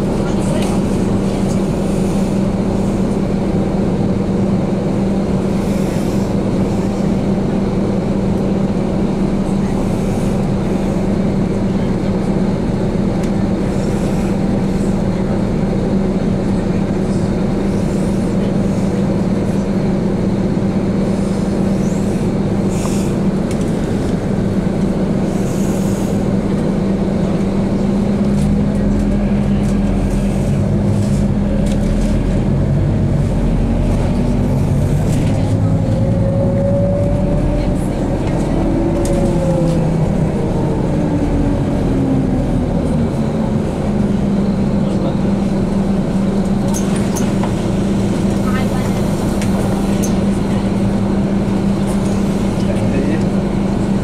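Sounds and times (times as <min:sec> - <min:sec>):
bus engine hum: 0:00.0 - 0:54.0
rumbling road noise: 0:00.0 - 0:54.0.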